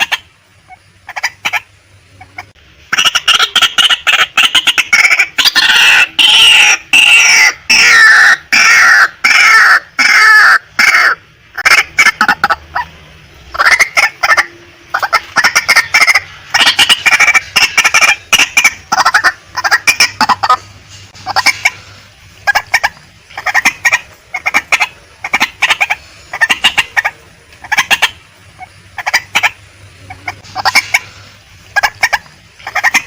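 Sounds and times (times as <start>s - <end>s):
waterhen clucking calls: 0.0s - 33.0s.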